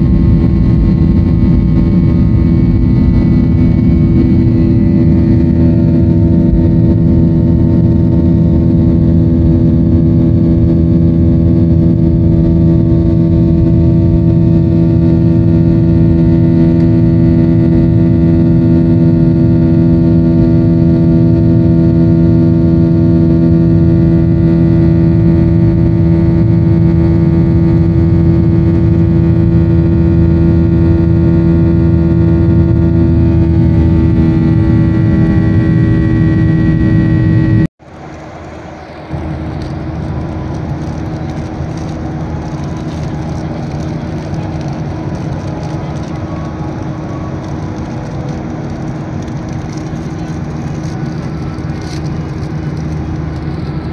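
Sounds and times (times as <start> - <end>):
jet engine roar in cabin: 0.0 - 53.9
steady humming tones: 0.0 - 53.9.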